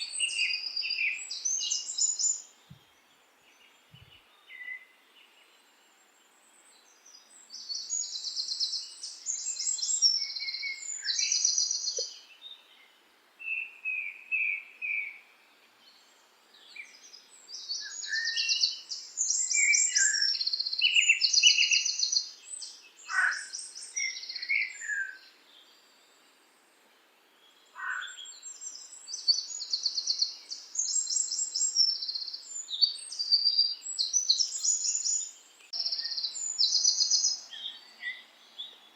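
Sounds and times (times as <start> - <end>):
songbird trilling and chirping: 0.0 - 2.8, 7.0 - 15.2, 16.6 - 25.7, 27.4 - 38.9.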